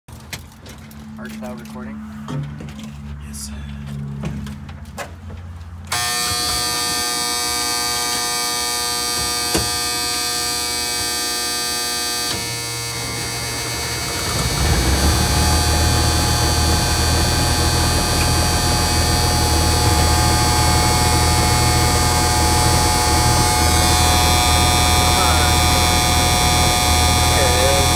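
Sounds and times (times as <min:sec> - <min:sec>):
diesel engine running: 0:00.2 - 0:27.9.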